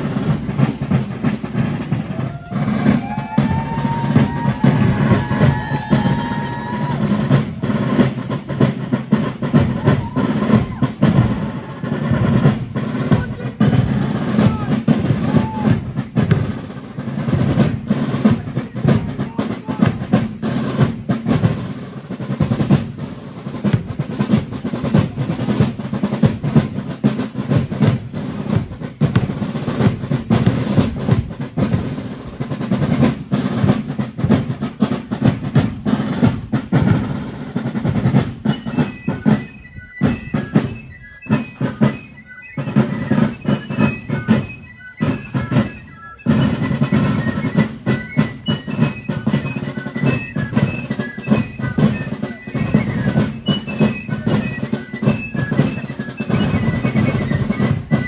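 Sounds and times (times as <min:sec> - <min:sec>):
snare drum rolls: 0:00.0 - 0:58.0.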